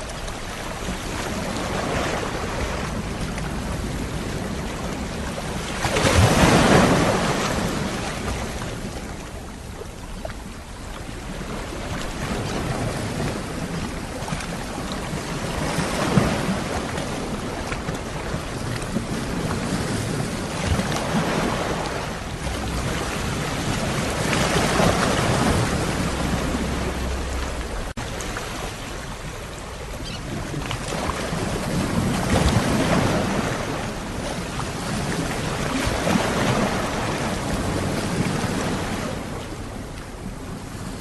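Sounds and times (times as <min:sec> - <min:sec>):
sea waves washing onto shore: 0:00.0 - 0:41.0.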